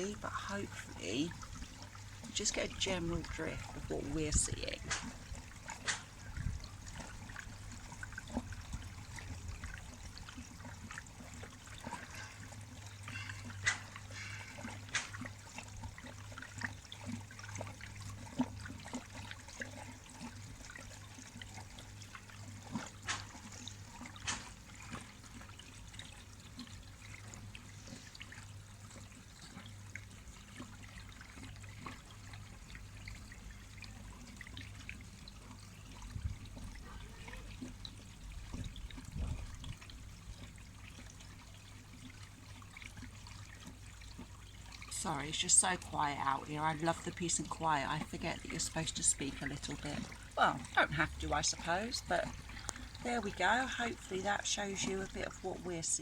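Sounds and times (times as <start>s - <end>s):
low steady hum: 0.0s - 56.0s
water trickling into a pond: 0.0s - 56.0s.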